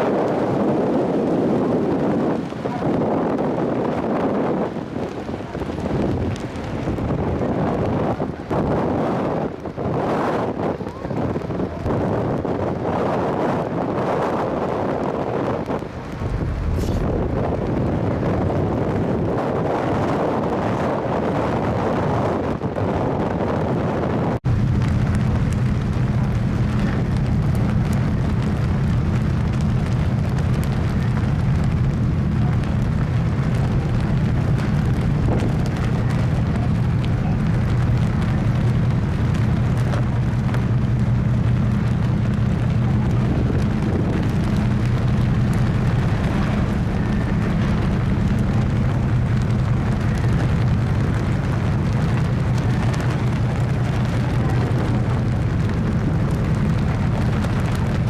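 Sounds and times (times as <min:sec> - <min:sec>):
ship engines droning: 0:00.3 - 0:58.0.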